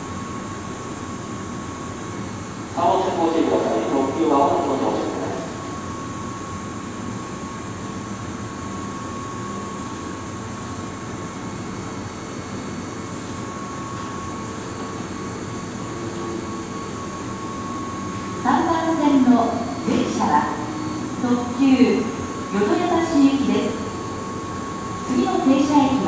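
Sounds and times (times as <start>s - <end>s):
electric train hum: 0.0s - 26.0s
faint low train whine: 0.0s - 26.0s.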